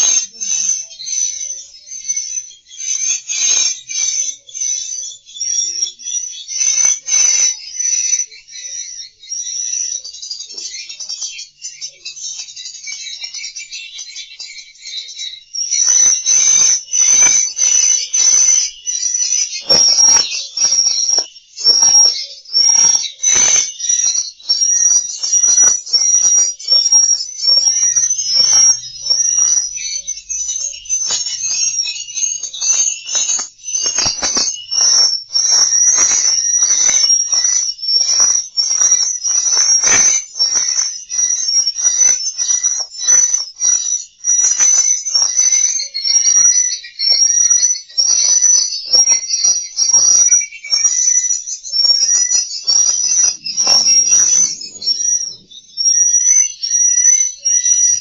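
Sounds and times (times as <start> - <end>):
high steady whistle tone: 0.0 - 58.0
swiftlet twittering chirps: 0.0 - 58.0.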